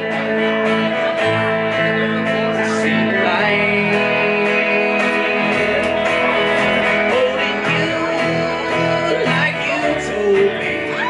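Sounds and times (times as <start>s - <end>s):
electric guitar: 0.0s - 11.0s
second guitar: 0.0s - 11.0s
upright double bass: 0.0s - 11.0s.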